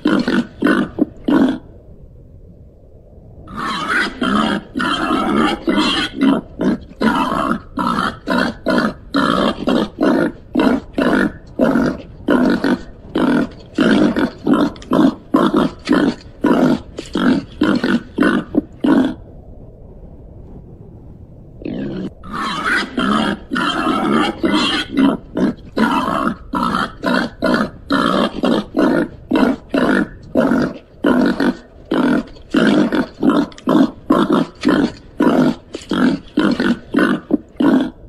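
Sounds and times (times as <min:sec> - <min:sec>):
pig-like animal grunting: 0:00.0 - 0:01.7, 0:03.5 - 0:19.2, 0:21.6 - 0:38.0.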